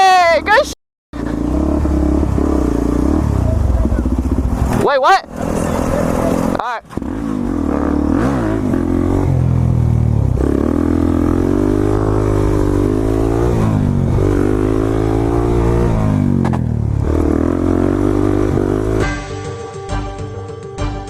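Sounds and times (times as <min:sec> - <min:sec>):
dirt bike engine accelerating: 0:01.2 - 0:19.2.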